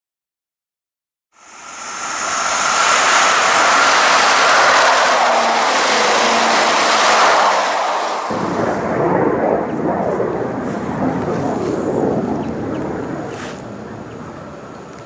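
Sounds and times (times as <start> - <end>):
train passing at speed: 1.4 - 15.0.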